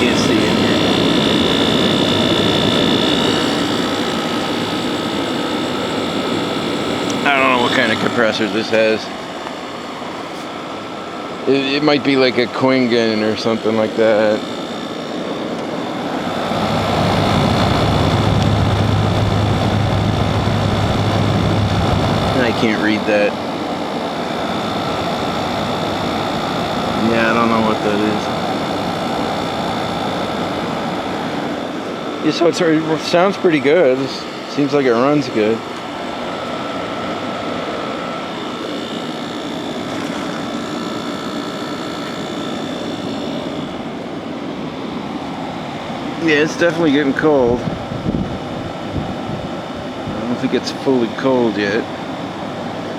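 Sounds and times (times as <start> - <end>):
air conditioner running: 0.0 - 52.9
compressor hum: 0.0 - 52.9
faint steady whine: 0.0 - 52.9
fan rushing: 0.0 - 52.9.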